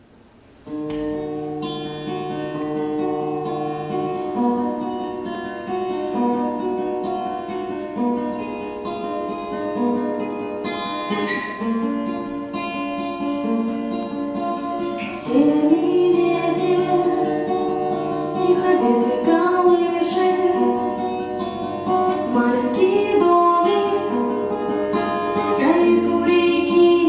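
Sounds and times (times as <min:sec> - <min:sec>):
acoustic guitar plucking: 0:00.0 - 0:27.0.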